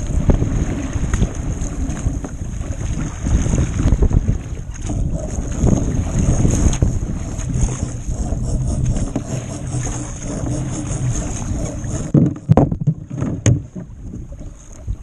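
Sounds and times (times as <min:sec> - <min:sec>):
kayak paddle splashing water: 0:00.0 - 0:15.0
wind buffeting microphone: 0:00.0 - 0:15.0
paddle knocking on kayak: 0:01.1 - 0:14.5.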